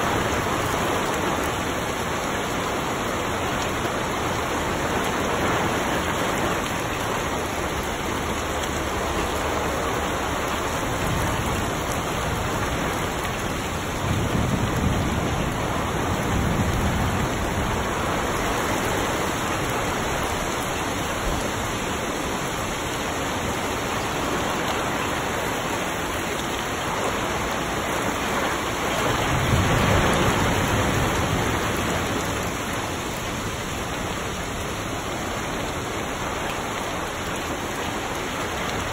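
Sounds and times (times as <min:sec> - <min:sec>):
heavy rain on trees and grass: 0:00.0 - 0:38.9.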